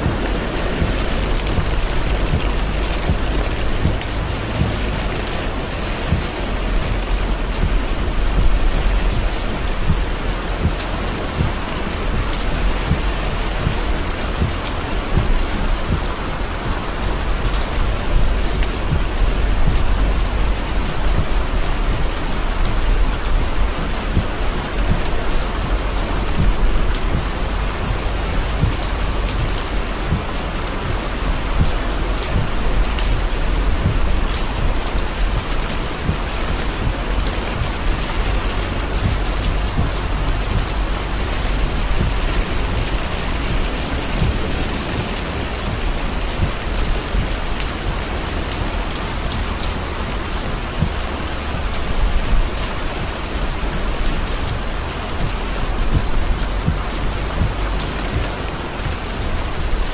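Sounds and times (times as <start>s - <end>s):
heavy rain drumming on car roof: 0.0s - 59.9s
steady low rumble: 0.0s - 59.9s.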